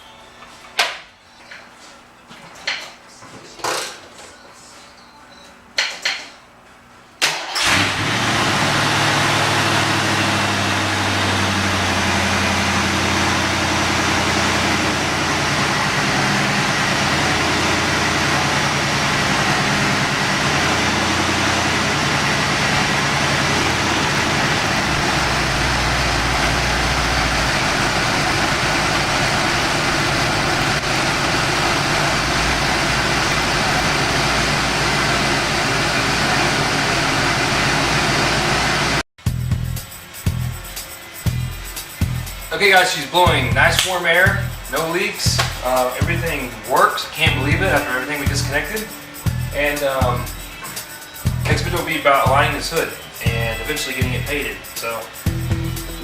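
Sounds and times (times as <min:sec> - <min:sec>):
car engine starting and idling: 0:07.2 - 0:56.0.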